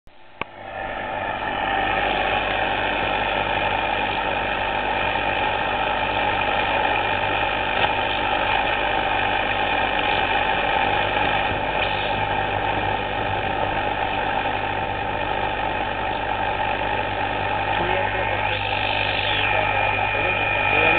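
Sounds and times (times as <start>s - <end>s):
low hum: 0.1s - 20.9s
radio static hiss: 0.5s - 20.9s.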